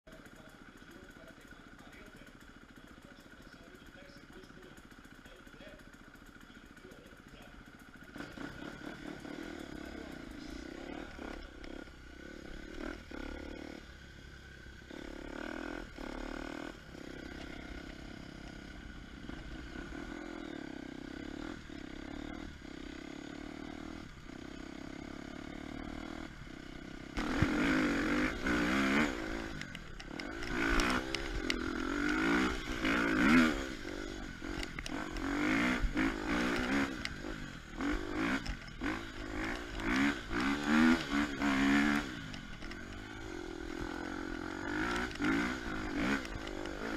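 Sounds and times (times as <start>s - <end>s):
motorcycle engine revving: 0.1s - 46.9s.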